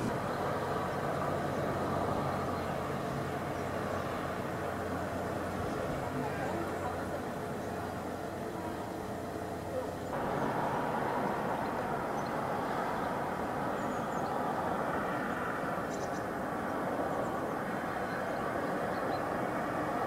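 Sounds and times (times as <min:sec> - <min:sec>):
outdoor background roar: 0:00.0 - 0:20.0.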